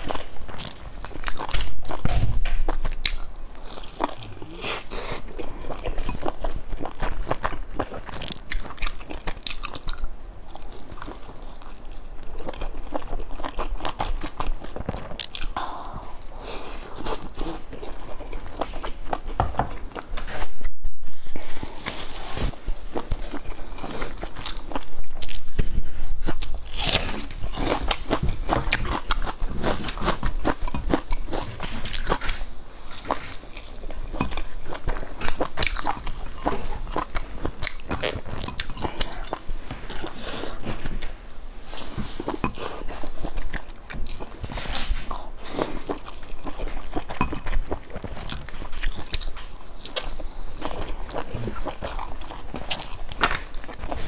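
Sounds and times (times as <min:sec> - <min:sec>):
person chewing wetly: 0:00.0 - 0:02.0, 0:02.7 - 0:20.0, 0:22.6 - 0:54.0.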